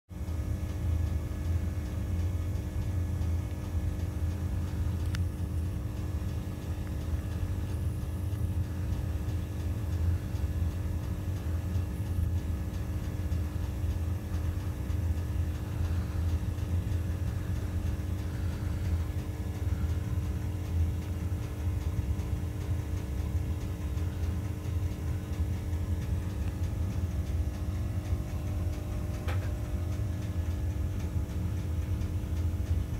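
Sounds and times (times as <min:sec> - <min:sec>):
aquarium air pump humming: 0:00.2 - 0:32.9
faint tick: 0:00.2 - 0:32.9.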